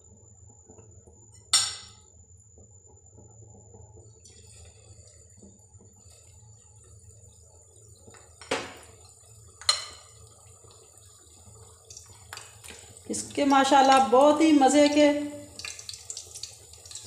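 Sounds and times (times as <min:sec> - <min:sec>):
batter sizzling in oil: 0:00.4 - 0:17.0.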